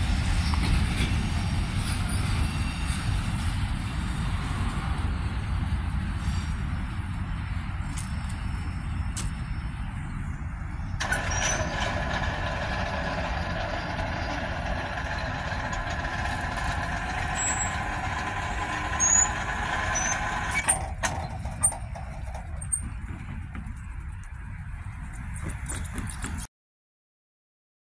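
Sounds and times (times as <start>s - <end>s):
train rolling by: 0.0s - 26.5s.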